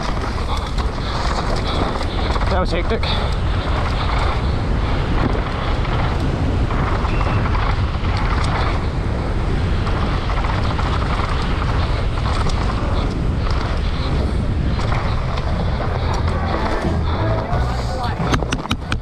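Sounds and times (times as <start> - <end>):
bike rumbling over dirt: 0.0 - 19.0
wind rushing over microphone: 0.0 - 19.0.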